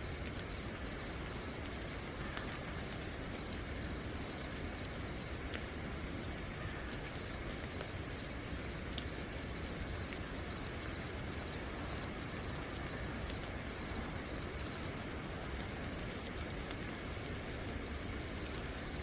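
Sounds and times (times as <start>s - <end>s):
crickets trilling: 0.0s - 19.0s
steady rain: 0.0s - 19.0s.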